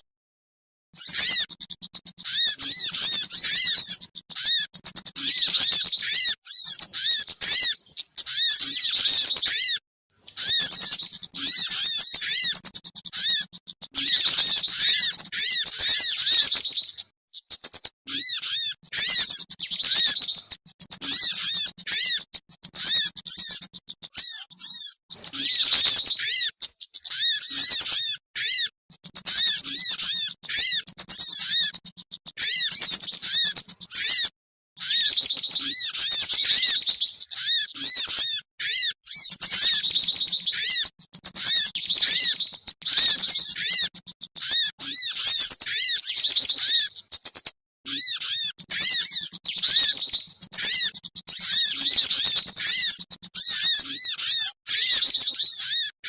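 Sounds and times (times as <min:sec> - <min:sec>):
songbirds chirping and trilling: 0:01.0 - 0:56.0.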